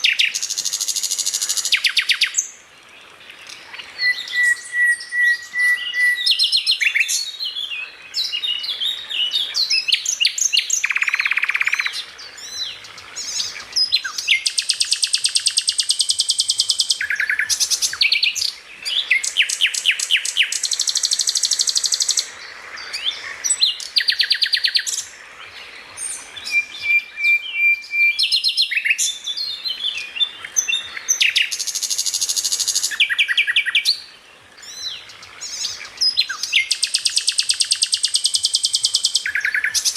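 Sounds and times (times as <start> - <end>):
songbird singing trills and chirps: 0.0 - 39.9.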